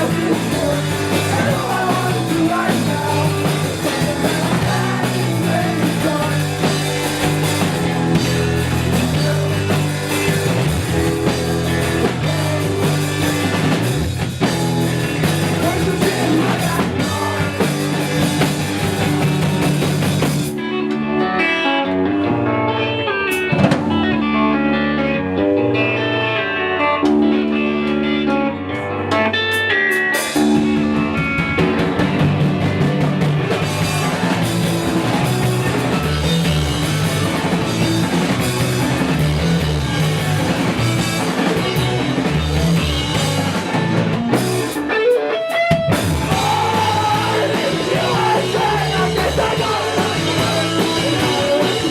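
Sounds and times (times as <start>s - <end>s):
drums and cymbals: 0.0s - 20.6s, 29.5s - 51.9s
bass guitar: 0.0s - 51.9s
electric guitar: 0.0s - 51.9s.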